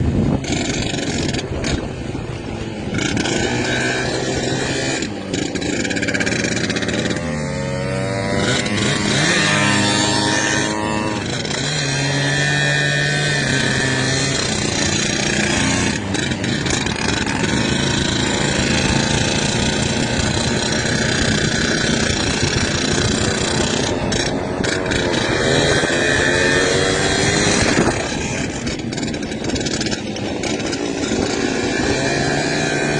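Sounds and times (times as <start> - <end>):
two-stroke motorcycle engines revving: 0.0 - 32.9.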